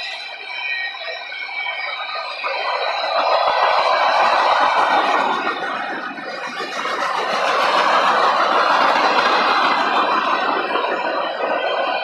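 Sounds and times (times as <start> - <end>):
steel wheels rolling on rail: 1.5 - 12.0.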